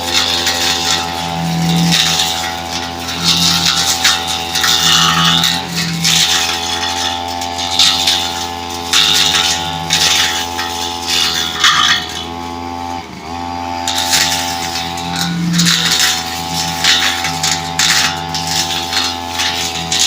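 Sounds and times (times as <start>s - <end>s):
brush cutter cutting undergrowth: 0.0s - 20.0s
brush cutter engine running: 0.0s - 20.0s.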